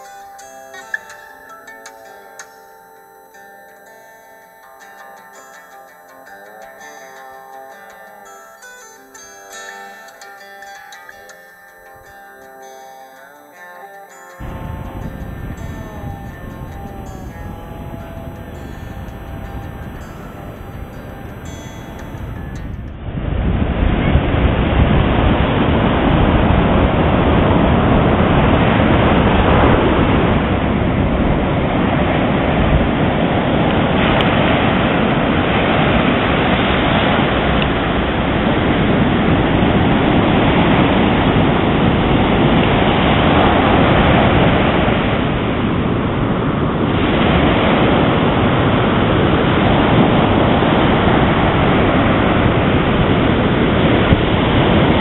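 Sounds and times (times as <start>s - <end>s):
ocean surf on beach: 0.0s - 55.0s.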